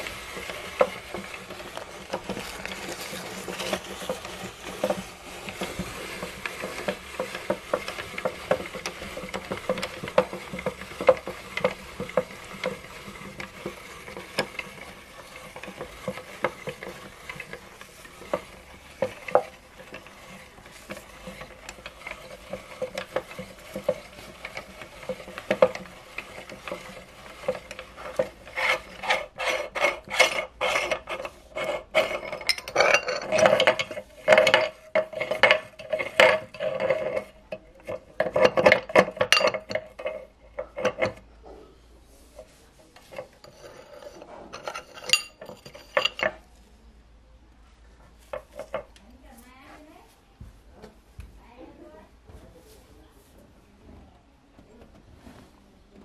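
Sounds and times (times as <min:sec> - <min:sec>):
fingers scraping metal plate: 0:00.0 - 0:41.6, 0:42.3 - 0:46.4.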